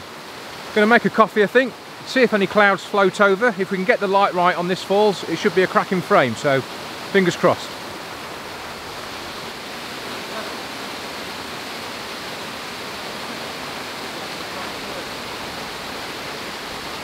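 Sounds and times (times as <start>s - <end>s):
waterfall rushing into pool: 0.0s - 17.0s.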